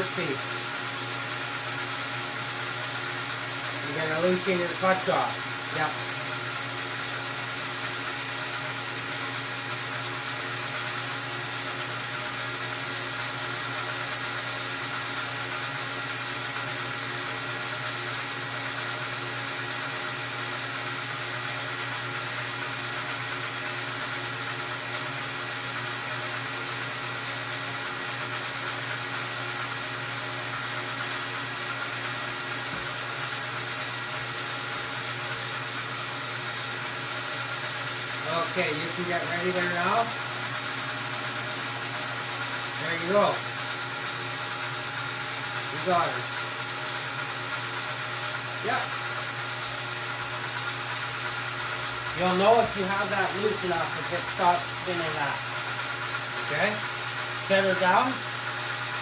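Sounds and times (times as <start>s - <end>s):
metal lathe humming and whining: 0.0s - 59.0s.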